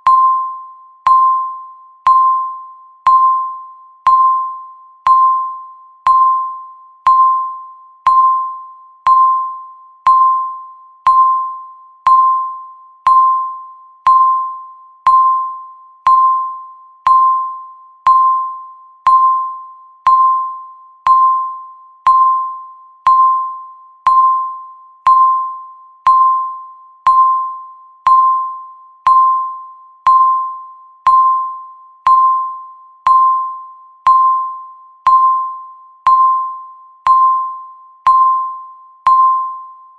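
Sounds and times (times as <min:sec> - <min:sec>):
countdown timer ticking ping: 0:00.0 - 0:39.8.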